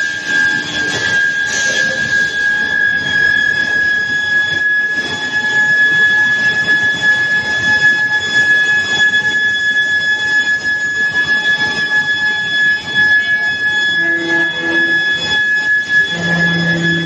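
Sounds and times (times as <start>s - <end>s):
high-pitched induction coil whine: 0.0s - 17.0s.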